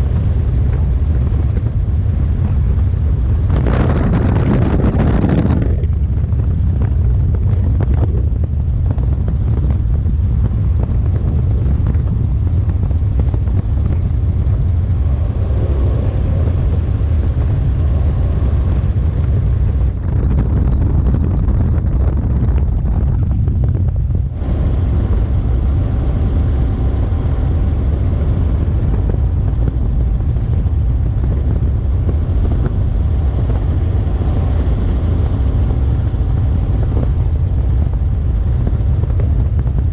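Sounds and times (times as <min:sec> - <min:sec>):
helicopter rotor and engine drone: 0:00.0 - 0:39.9
wind buffeting microphone: 0:00.0 - 0:39.9.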